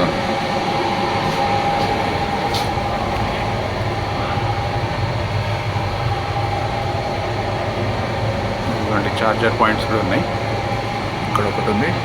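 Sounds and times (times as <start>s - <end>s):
air conditioning hum: 0.0s - 12.0s
train running rumble: 0.0s - 12.0s.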